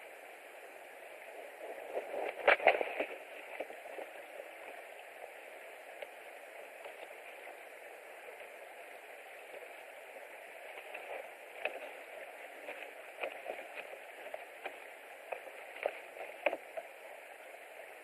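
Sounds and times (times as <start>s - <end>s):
steady outdoor hiss: 0.0s - 18.0s
faint ticks: 1.2s - 18.0s.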